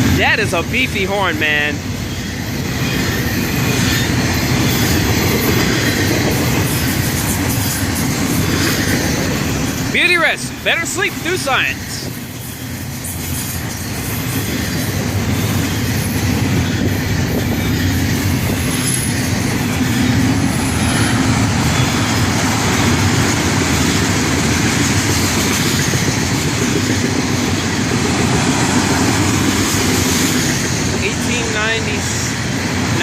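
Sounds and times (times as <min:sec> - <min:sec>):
freight train rolling past: 0:00.0 - 0:33.0
steel wheels clattering on rails: 0:00.0 - 0:33.0.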